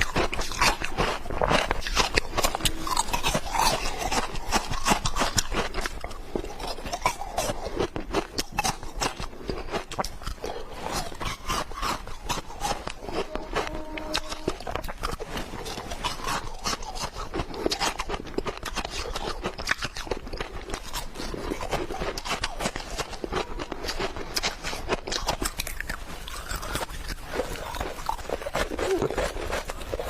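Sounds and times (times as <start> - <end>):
ice cubes crunching: 0.0 - 30.0.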